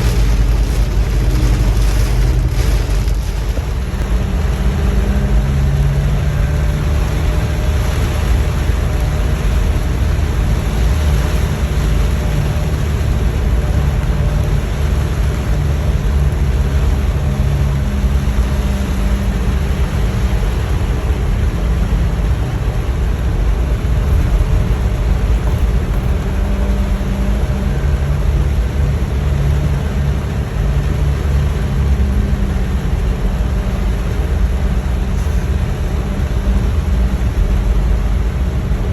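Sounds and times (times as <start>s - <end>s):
car engine and tyres rumbling: 0.0s - 38.9s
rain and spray hiss: 0.0s - 38.9s.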